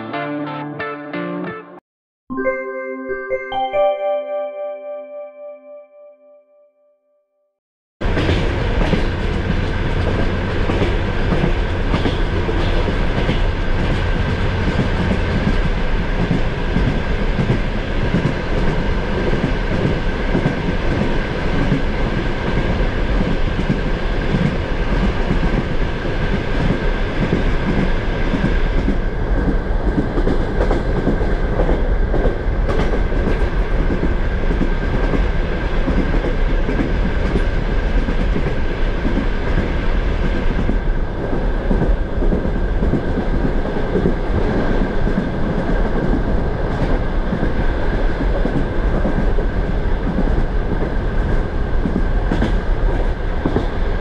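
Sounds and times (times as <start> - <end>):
train wheels rumbling on track: 8.0 - 54.0.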